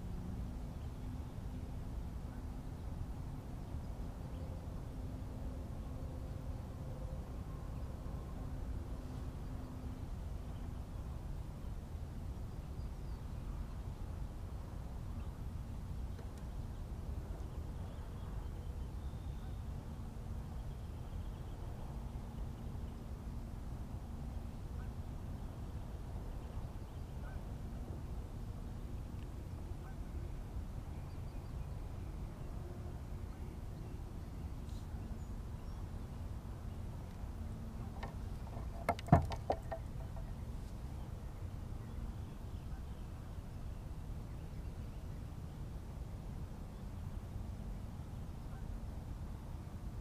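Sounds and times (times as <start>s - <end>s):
low outdoor background noise: 0.0s - 50.0s.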